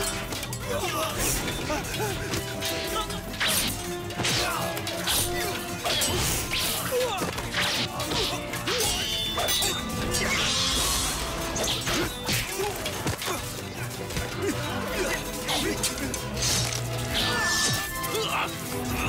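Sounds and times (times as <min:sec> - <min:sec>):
dramatic music score: 0:00.0 - 0:19.0
weapon clashes and blows: 0:00.0 - 0:19.0.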